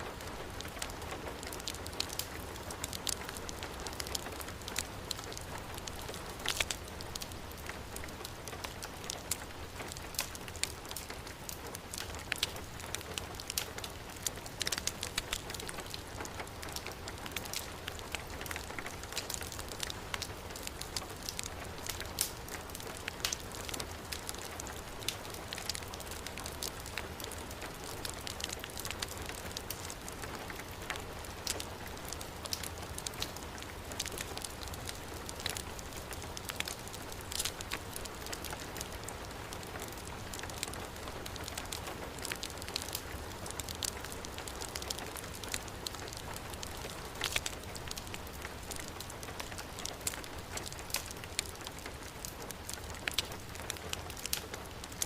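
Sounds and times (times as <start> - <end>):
fireplace fire crackling and popping: 0.0 - 55.0
heavy rain falling: 0.0 - 55.0.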